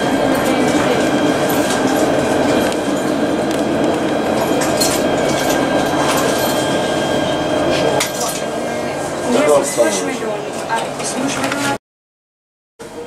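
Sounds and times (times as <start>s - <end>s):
tram wheels rumbling: 0.0s - 11.8s.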